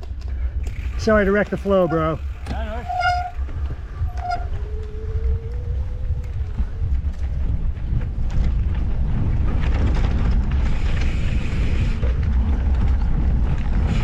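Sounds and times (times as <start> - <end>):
tyres rolling on dirt trail: 0.0 - 14.0
wind buffeting microphone: 0.0 - 14.0.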